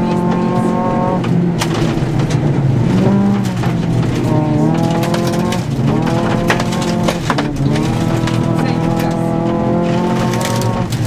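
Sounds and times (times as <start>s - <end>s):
rally car engine revving: 0.0s - 11.0s
gravel knocking against underbody: 1.2s - 11.0s.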